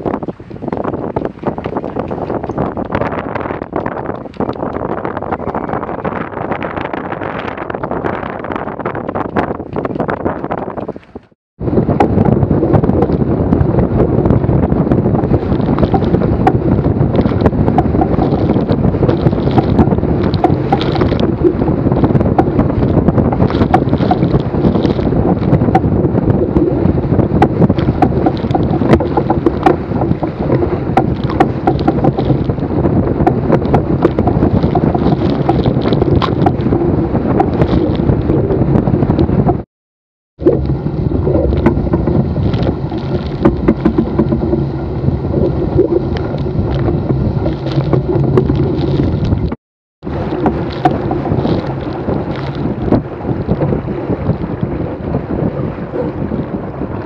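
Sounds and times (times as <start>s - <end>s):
water splashing against boat: 0.0s - 39.6s, 40.4s - 57.0s
wind buffeting microphone: 0.0s - 39.7s, 40.4s - 57.0s.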